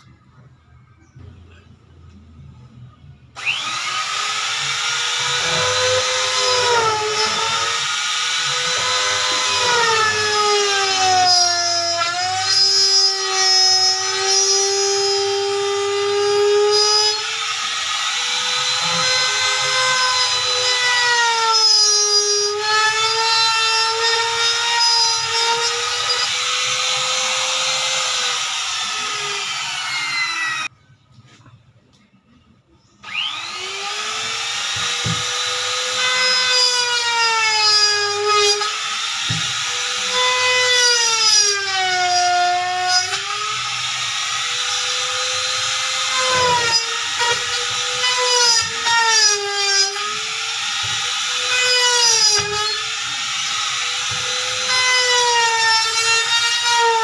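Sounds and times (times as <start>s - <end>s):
router whining cutting wood: 3.4s - 30.7s, 33.0s - 57.0s.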